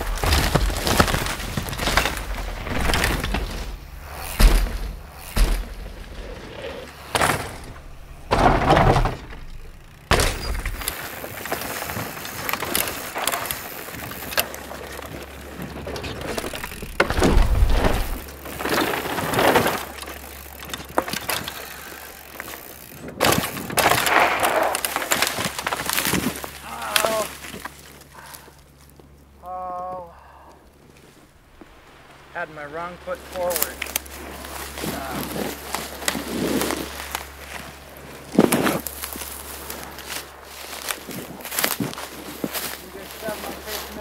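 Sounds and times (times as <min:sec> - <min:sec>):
tyres skidding through loose dirt: 0:00.0 - 0:29.4, 0:30.9 - 0:44.0
bike knocking and rattling: 0:00.0 - 0:30.1, 0:33.1 - 0:44.0.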